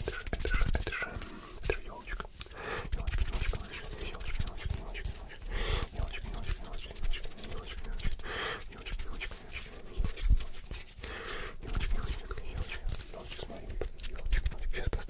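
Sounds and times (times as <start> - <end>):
hand clicks and rubbing: 0.0 - 15.0
person whispering: 0.0 - 15.0.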